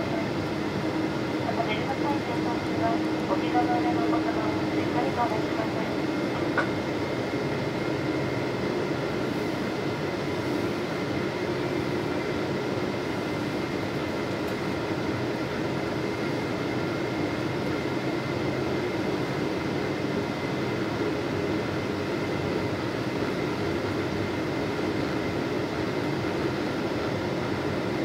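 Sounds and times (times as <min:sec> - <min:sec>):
jet engine and airflow drone: 0:00.0 - 0:28.0.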